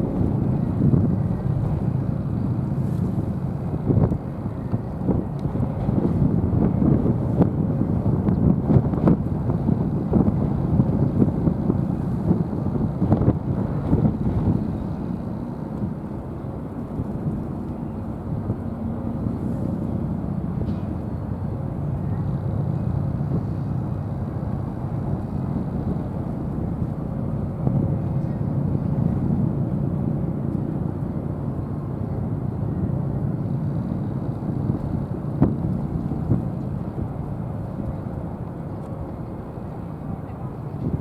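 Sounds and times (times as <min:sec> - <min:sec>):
ship engines rumbling: 0:00.0 - 0:41.0.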